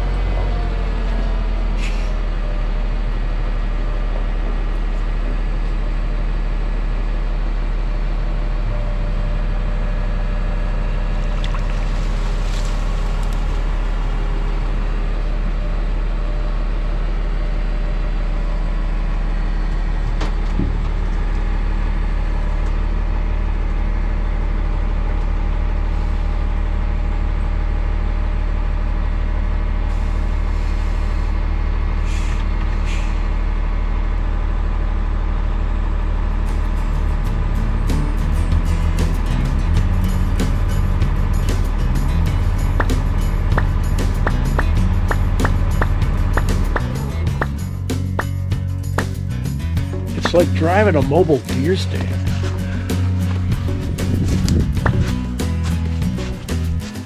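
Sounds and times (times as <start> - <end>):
wheel loader engine running: 0.0 - 57.0.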